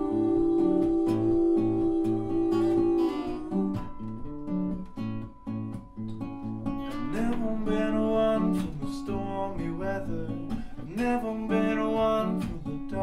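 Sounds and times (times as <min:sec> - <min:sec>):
acoustic guitar picking: 0:00.0 - 0:13.0.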